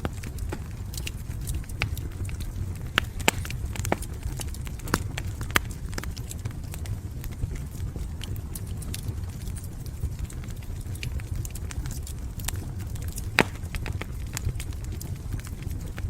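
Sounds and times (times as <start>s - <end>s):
low rumble of flames: 0.0s - 16.0s
sharp pops and snaps: 0.0s - 16.0s
wood fire crackling: 0.0s - 16.0s.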